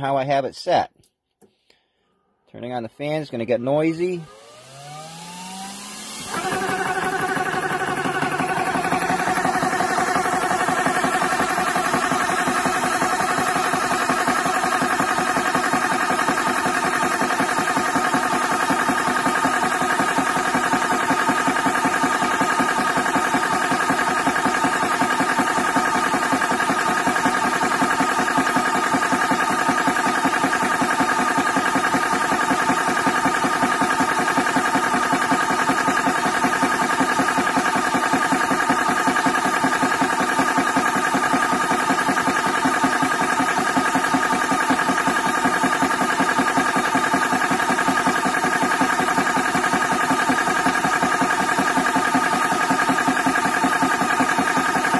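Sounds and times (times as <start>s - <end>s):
air compressor running: 3.7s - 54.9s.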